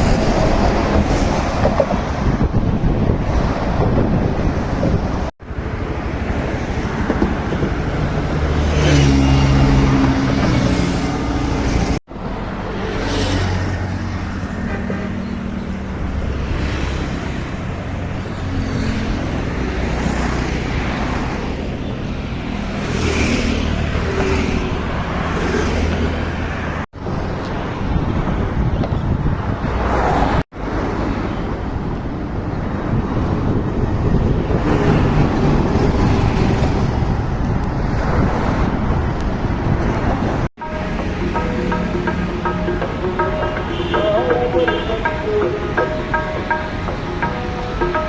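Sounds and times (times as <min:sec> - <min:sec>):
heavy vehicles passing: 0:00.0 - 0:48.0
highway traffic rushing: 0:00.0 - 0:48.0.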